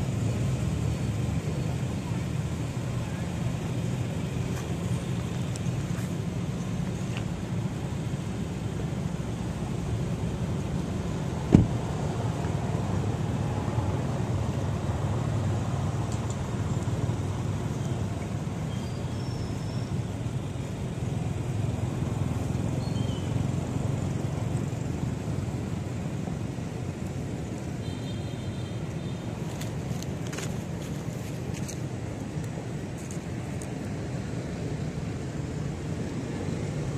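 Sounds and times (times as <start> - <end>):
low outdoor rumble: 0.0 - 36.9.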